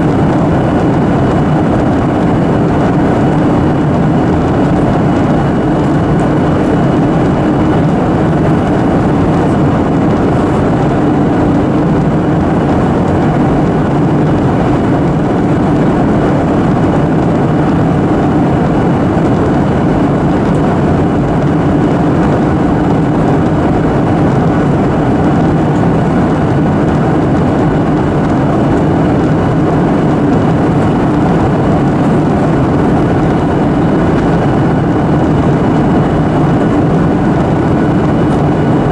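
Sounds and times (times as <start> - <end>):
jet engine cabin roar: 0.0 - 38.9.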